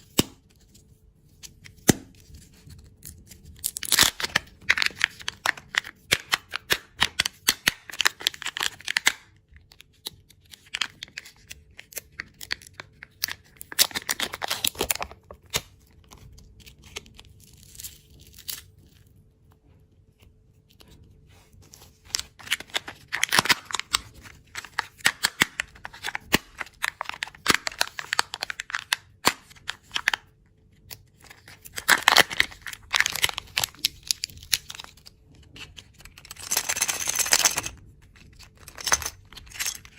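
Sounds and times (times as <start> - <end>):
candy packaging crinkling: 1.5 - 19.3, 20.7 - 39.9.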